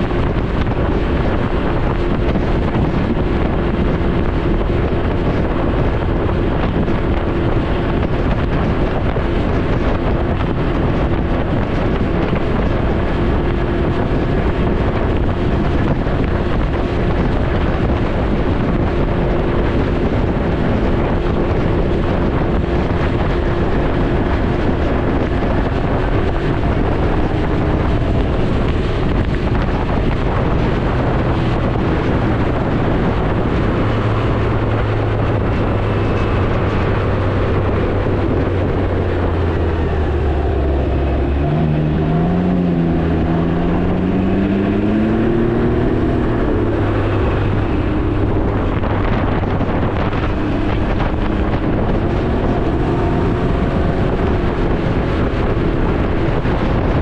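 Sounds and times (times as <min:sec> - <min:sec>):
motorbike engine running: 0:00.0 - 0:57.0
wind noise on microphone: 0:00.0 - 0:57.0.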